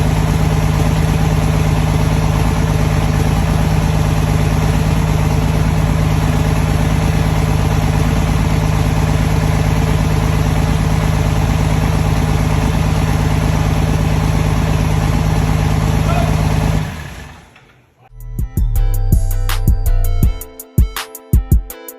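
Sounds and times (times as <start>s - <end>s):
diesel engine idling: 0.0s - 17.7s.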